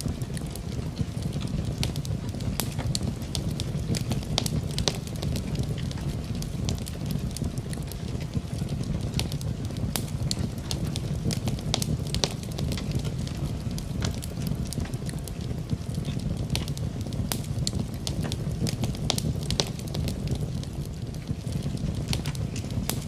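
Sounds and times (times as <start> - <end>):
fireplace fire crackling: 0.0 - 23.0
rain: 0.0 - 23.0.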